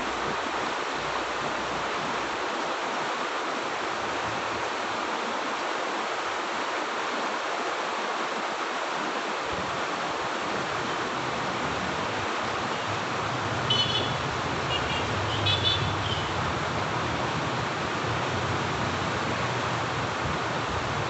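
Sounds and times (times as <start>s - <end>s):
river flowing over rocks: 0.0s - 21.0s.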